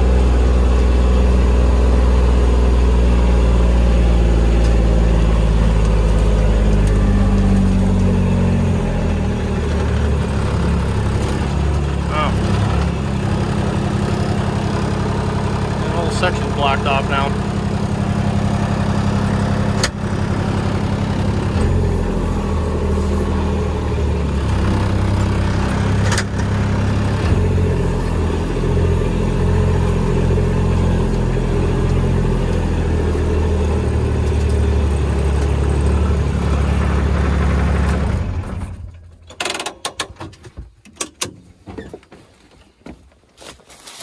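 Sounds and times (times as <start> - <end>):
utility vehicle engine running: 0.0 - 41.4.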